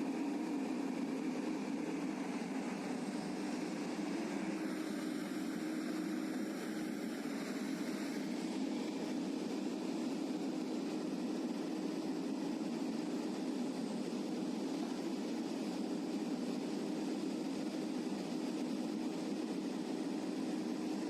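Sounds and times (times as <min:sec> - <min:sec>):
heavy machine engine drone: 0:00.0 - 0:18.3.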